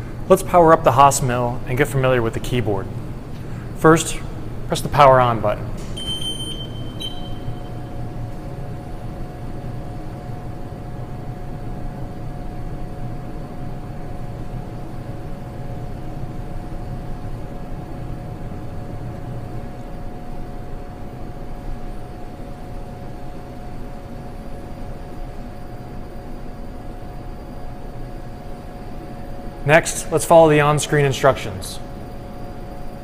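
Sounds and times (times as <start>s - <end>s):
faint machine whine: 0.0s - 33.0s
machine hum: 0.0s - 33.0s.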